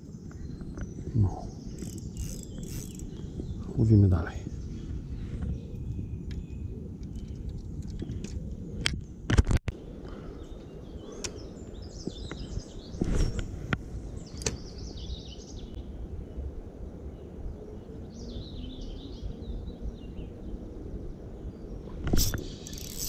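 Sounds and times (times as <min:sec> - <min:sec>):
songbird chirping: 0:00.0 - 0:08.4, 0:09.8 - 0:23.0
low rumble of wind: 0:00.0 - 0:23.0.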